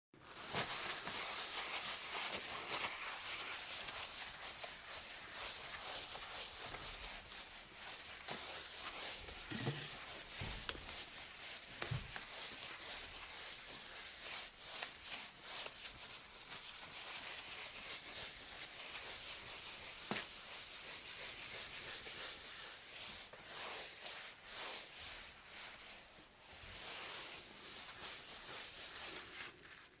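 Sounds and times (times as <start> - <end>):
cloth wiping countertop: 0.2 - 30.0.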